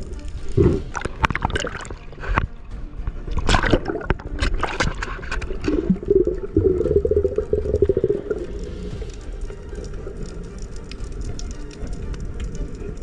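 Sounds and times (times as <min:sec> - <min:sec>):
rapid water gurgling: 0:00.0 - 0:13.0
steady water noise: 0:00.0 - 0:13.0.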